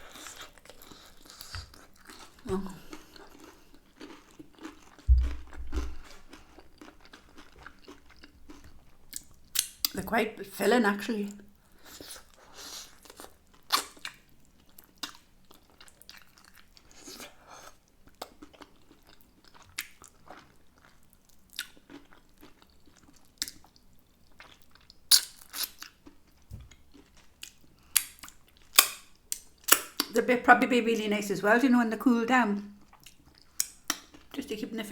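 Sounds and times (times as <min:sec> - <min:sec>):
wet chewing and lip smacking: 0:00.1 - 0:10.0, 0:11.8 - 0:30.2, 0:32.8 - 0:34.4.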